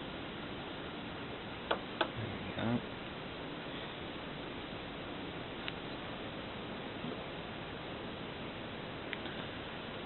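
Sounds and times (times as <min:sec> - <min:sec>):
low background hiss: 0:00.0 - 0:10.0.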